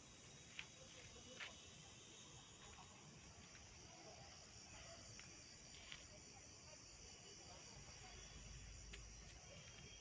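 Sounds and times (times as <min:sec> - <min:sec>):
faint high-pitched hiss: 0:00.0 - 0:10.0.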